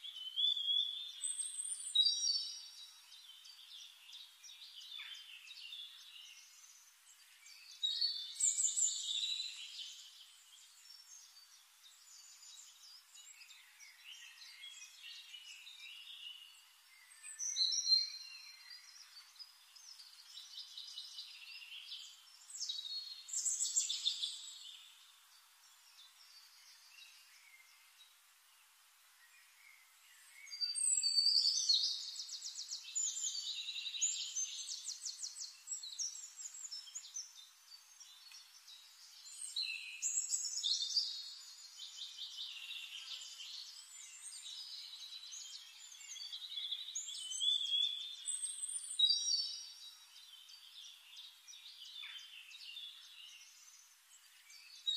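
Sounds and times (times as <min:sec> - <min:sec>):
birds chirping and warbling: 0:00.0 - 0:54.9.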